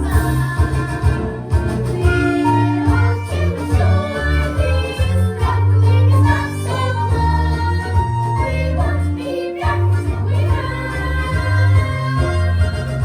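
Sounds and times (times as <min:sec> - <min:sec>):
loud bass line: 0:00.0 - 0:13.0
stage musical music: 0:00.0 - 0:13.0.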